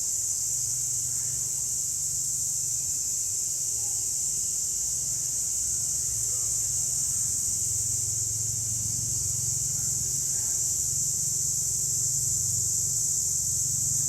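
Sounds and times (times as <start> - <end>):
cicadas buzzing in chorus: 0.0 - 14.0.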